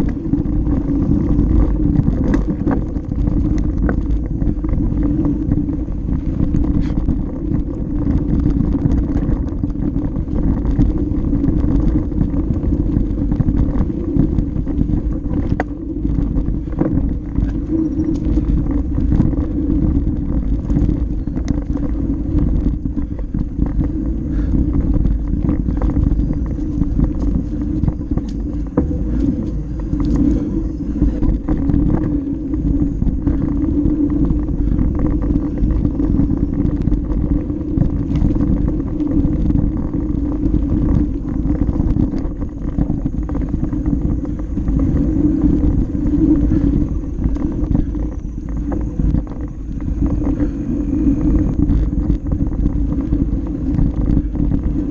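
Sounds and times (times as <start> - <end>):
bike clicks and rattles: 0.0 - 54.9
bike tyre noise on dirt: 0.0 - 54.9
wind rumble: 0.0 - 54.9.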